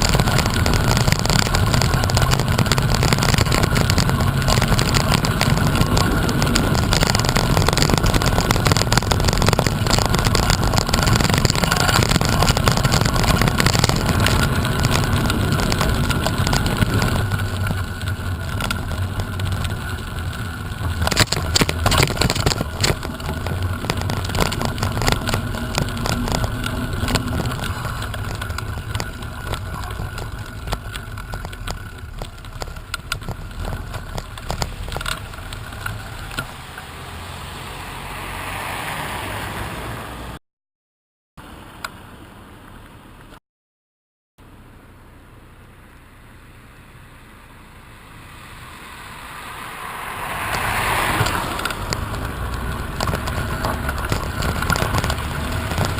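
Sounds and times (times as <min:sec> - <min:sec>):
wind rumbling on microphone: 0:00.0 - 0:38.0, 0:49.1 - 0:55.9
steady travel noise: 0:00.0 - 0:40.4, 0:44.4 - 0:55.9.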